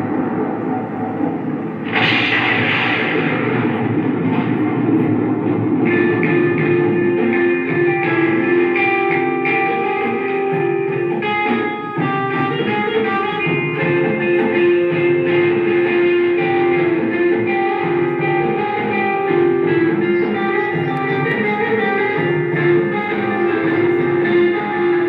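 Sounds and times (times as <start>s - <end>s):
guitar-led background music: 1.8s - 25.0s.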